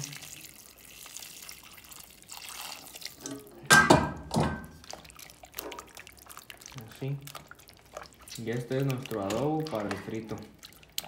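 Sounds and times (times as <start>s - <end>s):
hot water pouring into a pot: 0.0s - 11.0s.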